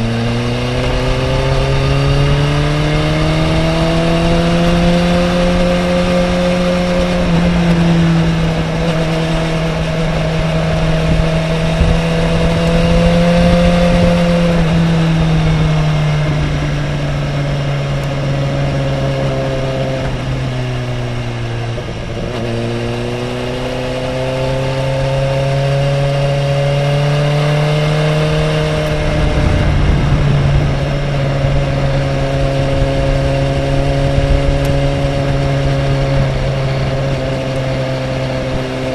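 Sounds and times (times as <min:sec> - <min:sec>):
motorcycle engine running hard: 0:00.0 - 0:38.9
wind rumble on microphone: 0:00.0 - 0:38.9.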